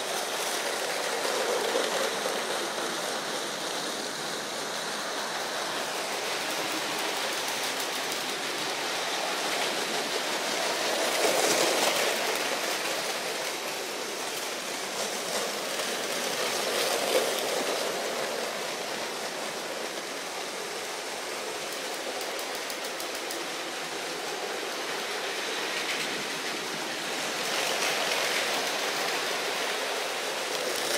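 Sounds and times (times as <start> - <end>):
toy trains rattling and whirring: 0.0 - 30.9.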